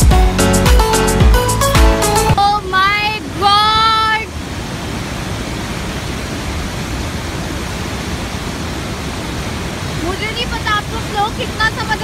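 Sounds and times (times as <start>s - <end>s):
mountain stream rushing: 1.4s - 12.0s.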